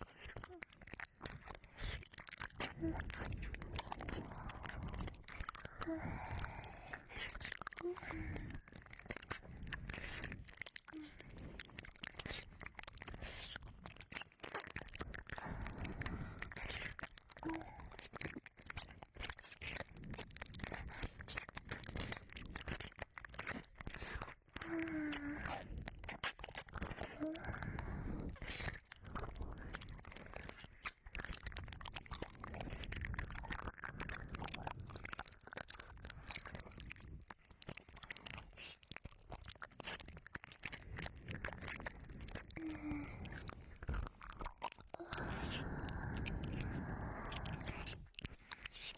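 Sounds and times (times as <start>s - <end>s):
wet mouth clicks and smacks: 0.0s - 48.9s.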